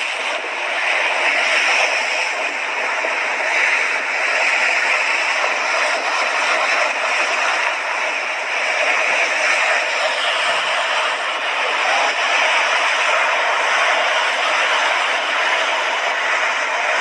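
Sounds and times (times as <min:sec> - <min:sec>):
sea waves washing onto shore: 0:00.0 - 0:17.0.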